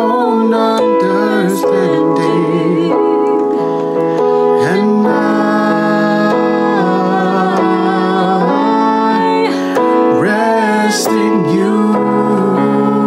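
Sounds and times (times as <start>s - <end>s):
electronic keyboard chords: 0.0s - 13.0s
woman and man singing: 0.0s - 13.0s.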